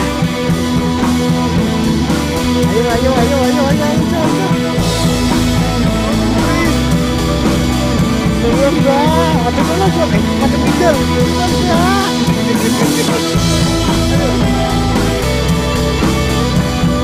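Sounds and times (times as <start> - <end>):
rock track with guitar and drums: 0.0 - 17.0.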